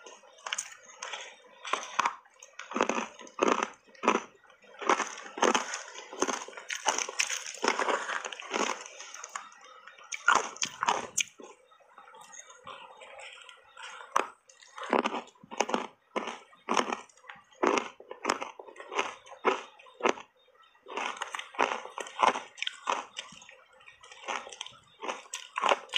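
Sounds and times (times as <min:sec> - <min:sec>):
crunchy chewing of ice: 0:00.0 - 0:25.9.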